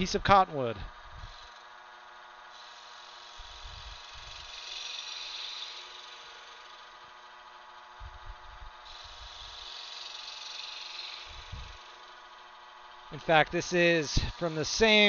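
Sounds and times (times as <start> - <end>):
wood lathe motor running: 0.0 - 15.0
gouge cutting wood: 1.3 - 7.8, 8.8 - 15.0.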